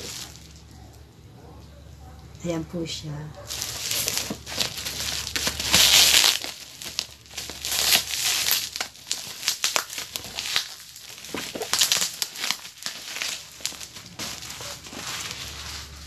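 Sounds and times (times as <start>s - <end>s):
plastic wrapping crinkling: 0.0s - 0.8s, 3.4s - 16.0s.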